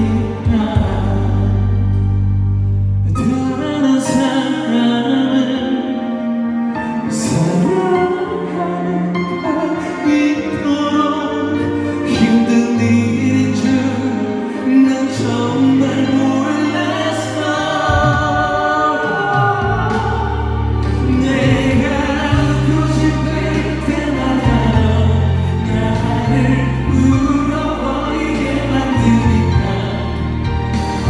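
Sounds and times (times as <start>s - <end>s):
deep bass: 0.0s - 5.6s, 6.3s - 31.0s
music with singing and choir: 0.0s - 31.0s.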